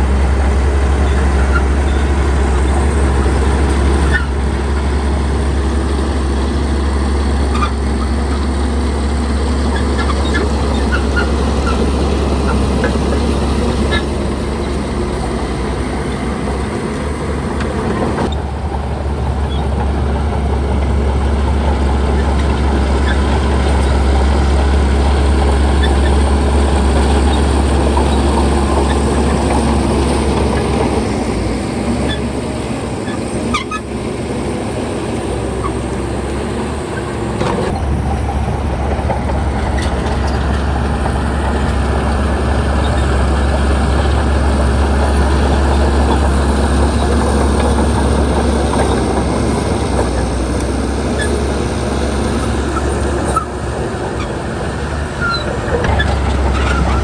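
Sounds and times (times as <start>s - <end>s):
bulldozer diesel engine: 0.0s - 57.0s
steel tracks rattling: 0.0s - 57.0s.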